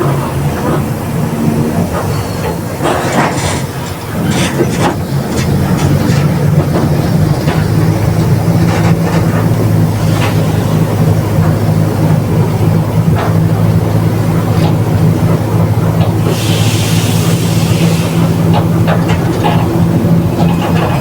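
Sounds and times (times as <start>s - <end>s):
bus body rattling and knocking: 0.0s - 21.0s
bus diesel engine drone: 0.0s - 21.0s.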